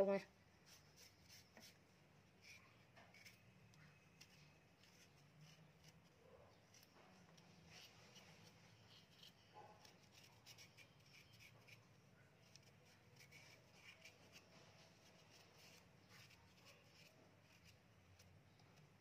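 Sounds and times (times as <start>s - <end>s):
knife scraping ginger skin: 0.6s - 19.0s.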